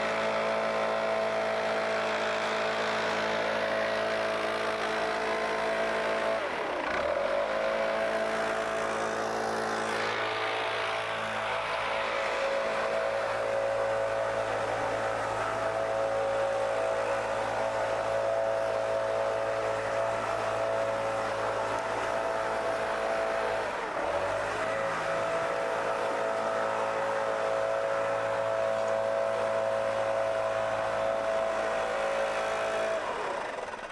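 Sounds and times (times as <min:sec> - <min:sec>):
leaf blower engine running: 0:00.0 - 0:33.9.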